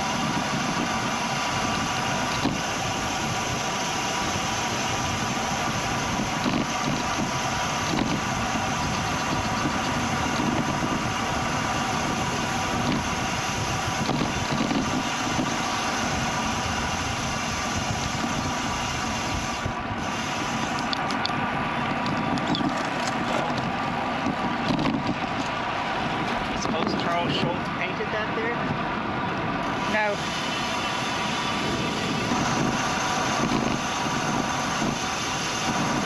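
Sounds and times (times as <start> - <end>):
bicycle tyres on road: 0.0 - 36.0
wind: 0.0 - 36.0.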